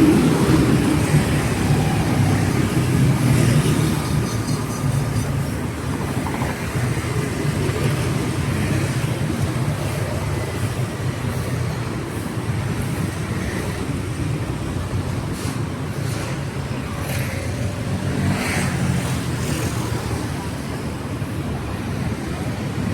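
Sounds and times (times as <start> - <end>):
traffic rumble: 0.0 - 22.9.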